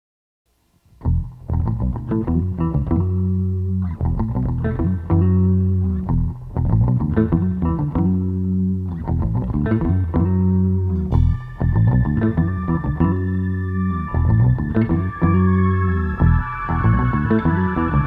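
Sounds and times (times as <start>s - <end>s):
guitar and bass music: 1.0s - 18.0s.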